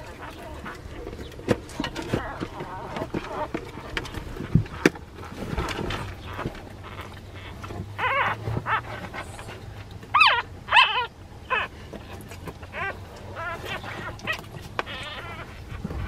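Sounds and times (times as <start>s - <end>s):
puppies squeaking and whimpering: 0.0s - 16.0s.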